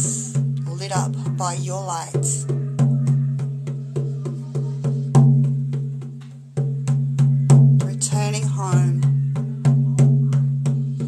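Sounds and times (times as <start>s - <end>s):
frame drum beating: 0.0s - 11.0s.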